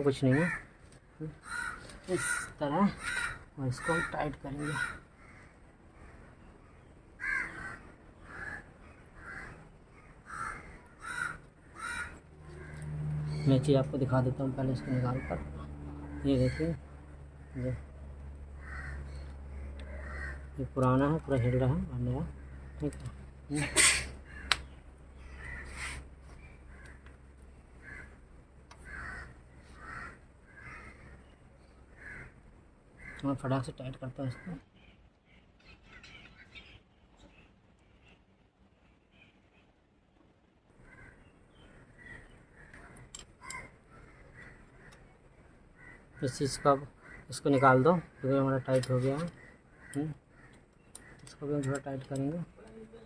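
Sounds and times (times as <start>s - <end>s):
crow cawing: 0.2s - 13.8s, 14.5s - 27.2s, 27.8s - 32.4s, 33.0s - 33.6s, 34.2s - 34.6s, 40.8s - 52.7s.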